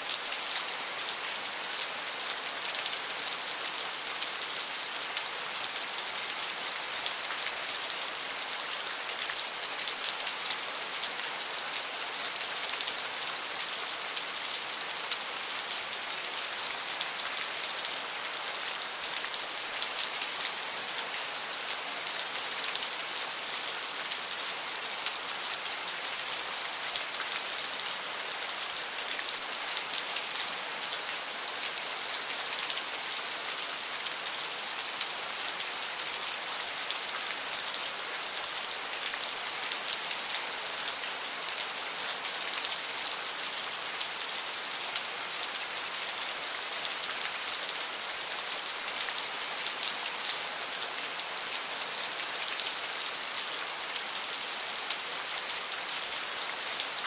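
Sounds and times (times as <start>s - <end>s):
heavy rain on hard surface: 0.0s - 57.0s.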